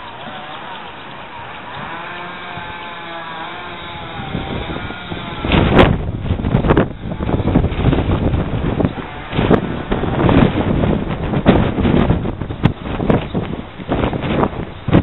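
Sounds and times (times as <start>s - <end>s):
boat trailer engine running: 0.0s - 15.0s
wind buffeting microphone: 0.0s - 15.0s.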